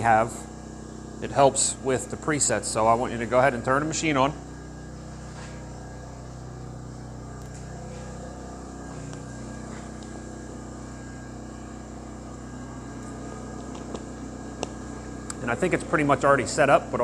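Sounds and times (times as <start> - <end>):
welding machine fan and hum: 0.0 - 17.0.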